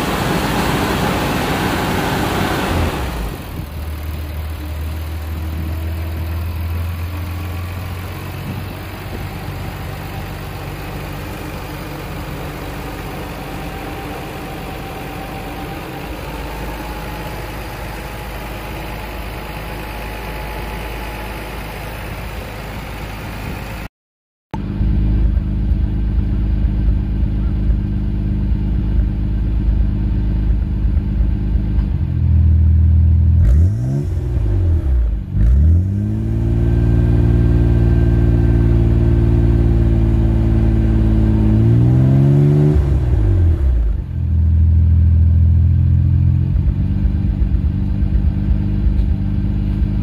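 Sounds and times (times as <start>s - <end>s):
car engine idling and revving: 0.0s - 23.9s, 24.5s - 50.0s.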